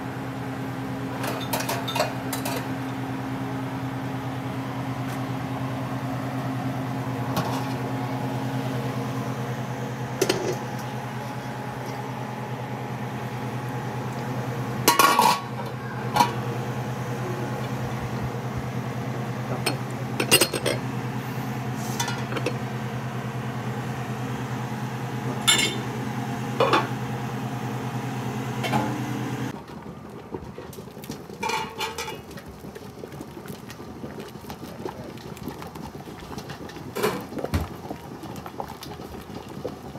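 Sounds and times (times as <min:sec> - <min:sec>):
kitchen appliance humming: 0:00.0 - 0:39.9.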